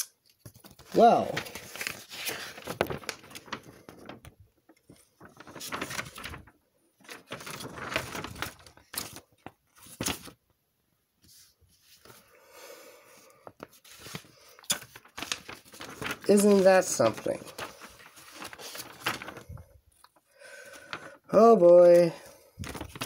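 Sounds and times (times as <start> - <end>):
plastic bags rustling: 0.8 - 10.4, 13.6 - 23.0.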